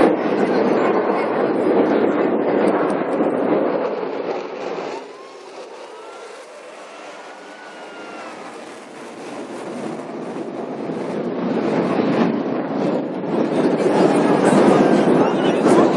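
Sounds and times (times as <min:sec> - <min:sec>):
jet engine roar: 0:00.0 - 0:15.9.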